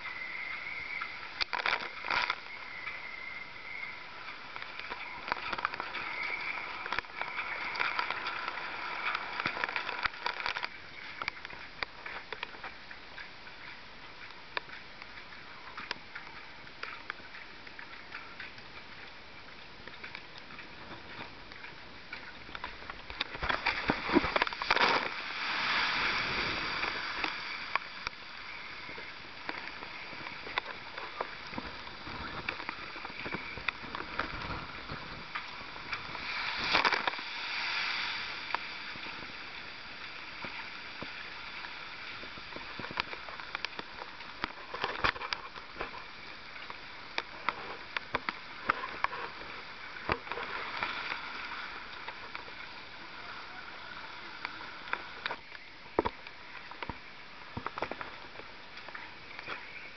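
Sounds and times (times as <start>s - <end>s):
waves crashing on breakwater: 0.0s - 12.8s, 19.9s - 59.9s
sloshing water: 0.0s - 59.9s.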